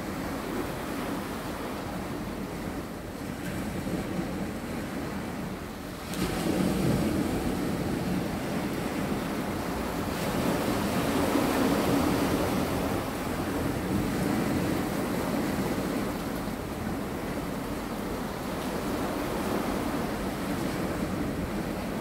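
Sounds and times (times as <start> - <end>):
sea waves breaking over rocks: 0.0 - 22.0.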